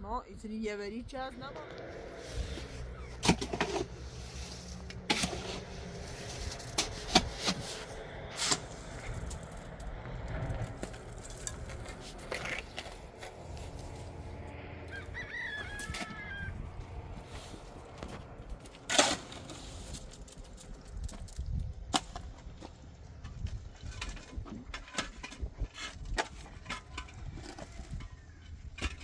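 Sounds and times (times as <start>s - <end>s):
low steady hum: 0.0s - 24.7s.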